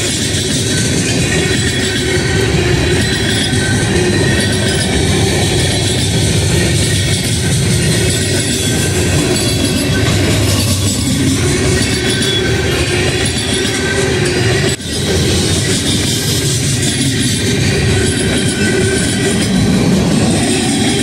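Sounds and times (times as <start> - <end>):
freight train wheels rumbling: 0.0 - 21.0
high-pitched wheel squeal: 0.0 - 21.0.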